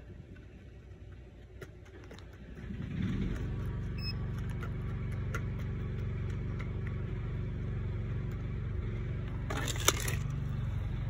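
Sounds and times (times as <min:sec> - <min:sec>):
idling engine hum: 0:00.0 - 0:11.0.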